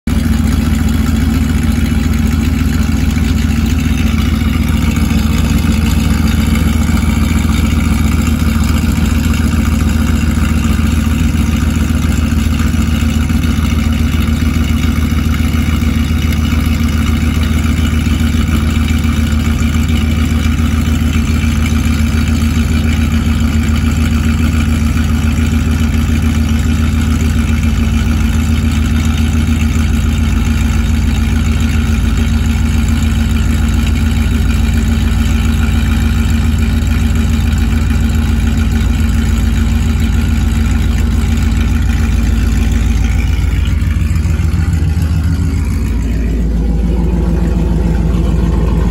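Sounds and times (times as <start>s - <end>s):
car engine idling loudly: 0.0s - 48.9s.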